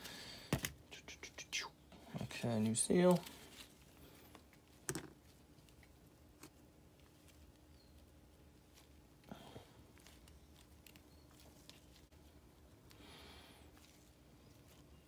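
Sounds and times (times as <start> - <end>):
soft rustles of gloved hands: 2.0 - 15.0.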